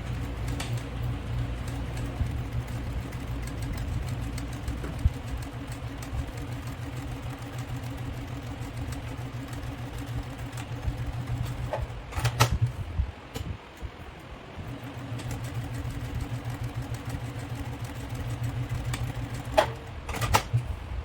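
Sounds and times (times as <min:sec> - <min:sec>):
electric sewing machine running: 0:00.0 - 0:12.8, 0:14.2 - 0:20.6
sewing machine clicks: 0:00.0 - 0:20.7.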